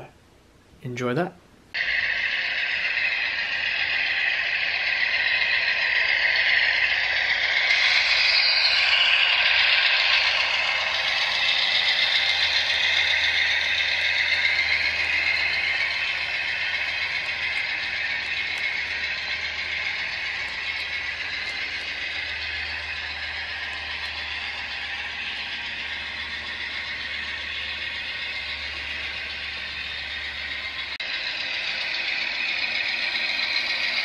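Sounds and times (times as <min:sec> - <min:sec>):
model train wheels and motor whirring: 0:01.7 - 0:34.0.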